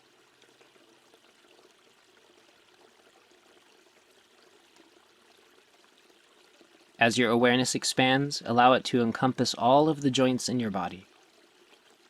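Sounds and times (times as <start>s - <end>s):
faint water-like hiss: 0.0s - 12.0s.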